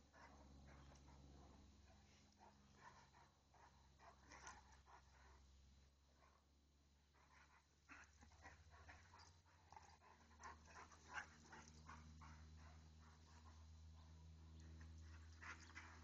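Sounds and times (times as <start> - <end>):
dogs playing: 0.0 - 5.5, 6.1 - 16.0.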